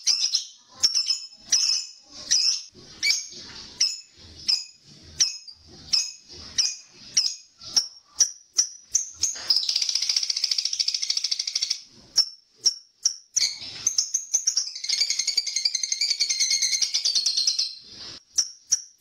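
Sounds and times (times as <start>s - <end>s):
bird sharp high chirps: 0.0s - 17.8s.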